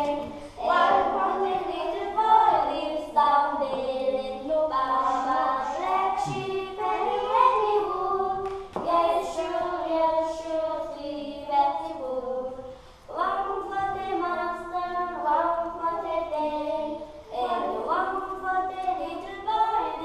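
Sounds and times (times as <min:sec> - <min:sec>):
children singing unaccompanied: 0:00.0 - 0:20.0.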